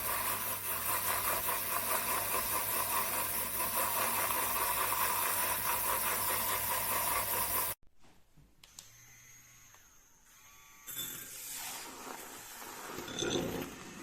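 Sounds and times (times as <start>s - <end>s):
electric milk frother whirring: 0.0s - 7.8s, 8.8s - 14.0s.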